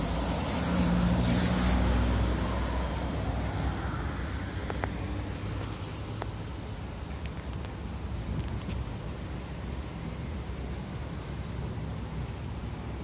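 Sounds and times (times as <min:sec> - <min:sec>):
road traffic: 0:00.0 - 0:13.0
vehicle engine hum: 0:00.0 - 0:13.0.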